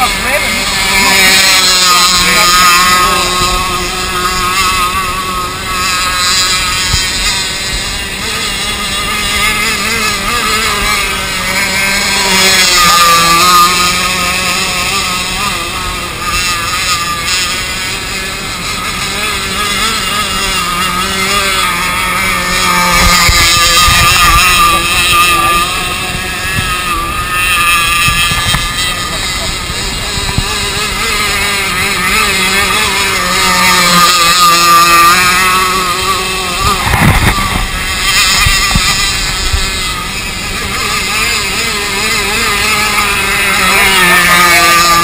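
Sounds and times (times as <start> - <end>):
model boat motor running: 0.0 - 45.0.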